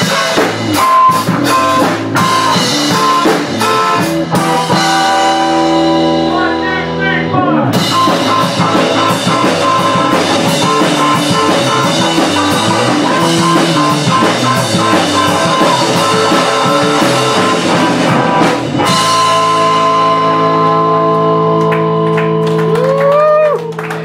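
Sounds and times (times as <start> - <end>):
bass guitar: 0.0 - 24.0
drum kit: 0.0 - 24.0
electric guitar: 0.0 - 24.0.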